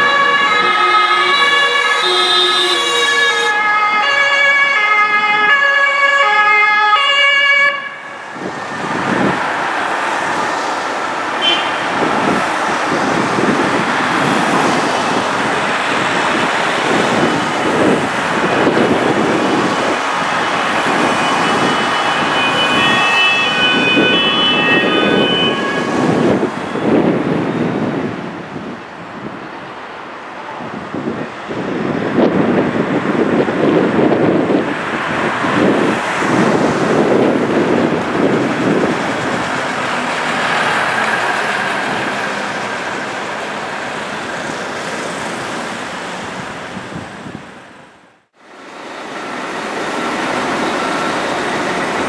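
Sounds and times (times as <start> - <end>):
two-tone police sirens wailing: 0.0 - 28.8, 30.6 - 45.4
vans passing: 0.0 - 52.0.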